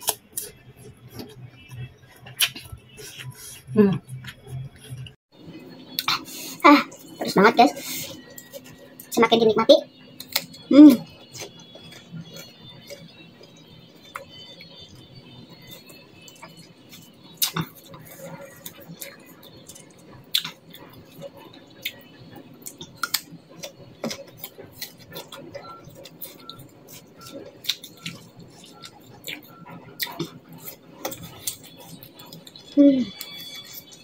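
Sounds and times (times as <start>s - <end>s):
crunching and chewing fruit: 0.0s - 5.2s, 5.9s - 34.0s.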